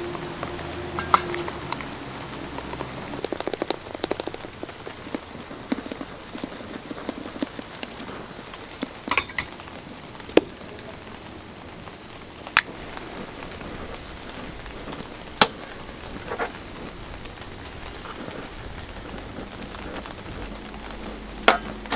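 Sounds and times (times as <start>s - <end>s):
steady background hiss: 0.0s - 21.9s.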